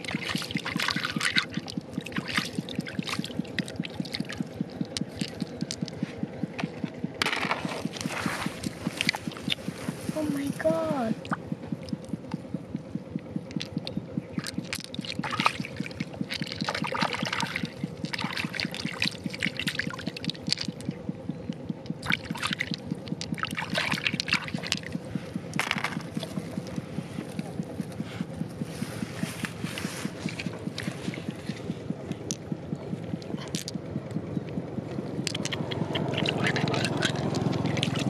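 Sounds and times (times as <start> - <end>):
fast steady throbbing: 0.0 - 38.0
water sloshing and splashing: 0.0 - 38.0.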